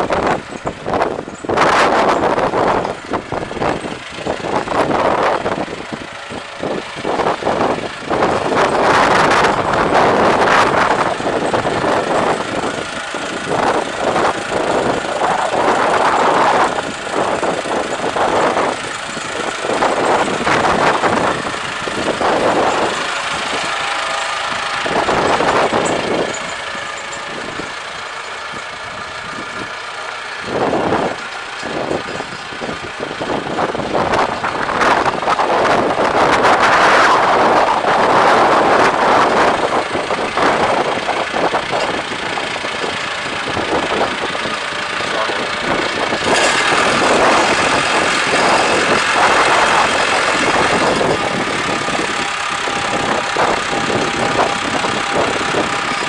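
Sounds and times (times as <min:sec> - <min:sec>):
tractor diesel engine running: 0:00.0 - 0:56.0
tyres on gravel: 0:00.0 - 0:56.0.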